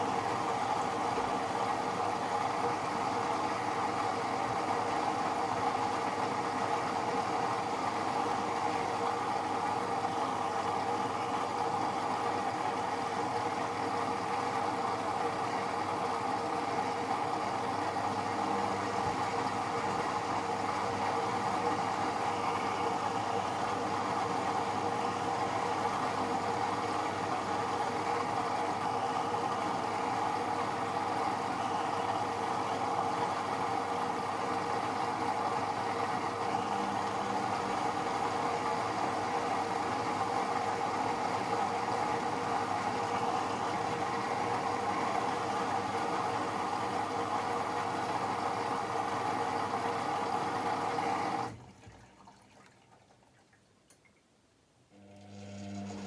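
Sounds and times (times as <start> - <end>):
washing machine humming: 0.0 - 53.3, 54.9 - 56.0.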